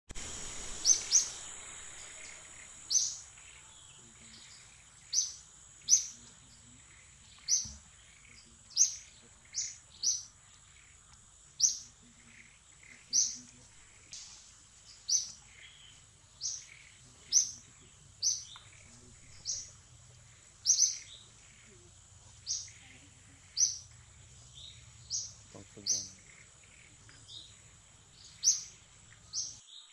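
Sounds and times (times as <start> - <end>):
faint high whine: 0.1 - 29.8
bird chirping: 0.2 - 29.9.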